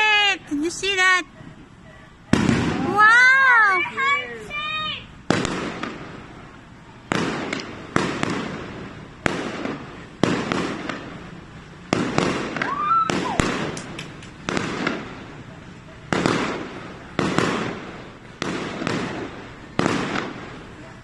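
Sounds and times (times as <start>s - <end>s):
firework bangs with echo: 2.3s - 3.4s, 5.2s - 21.0s.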